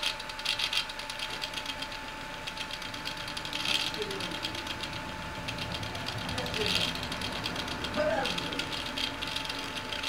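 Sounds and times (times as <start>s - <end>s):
steady motor whine: 0.0s - 10.0s
stepper motors ticking chatter: 0.0s - 10.0s.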